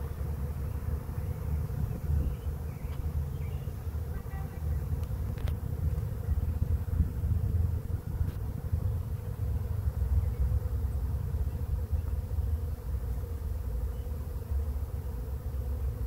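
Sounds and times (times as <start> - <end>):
bee swarm buzzing: 0.0 - 16.0.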